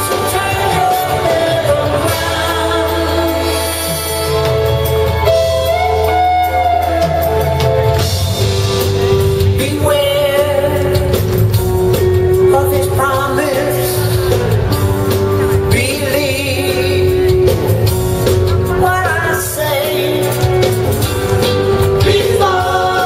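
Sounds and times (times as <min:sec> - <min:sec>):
lead singer singing: 0:00.0 - 0:06.2, 0:09.0 - 0:23.0
band with drums and guitars: 0:00.0 - 0:23.0.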